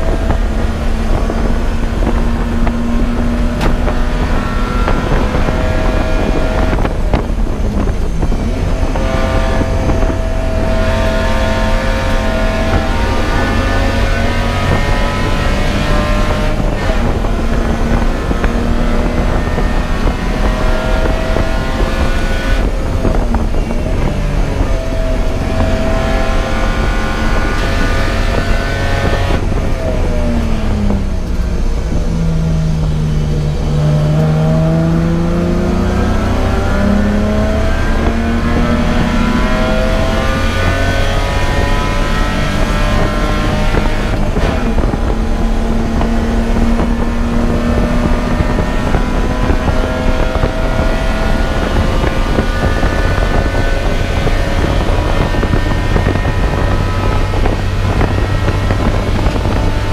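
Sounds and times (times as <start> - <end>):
race car engine: 0.0 - 59.9
wind and road noise: 0.0 - 59.9.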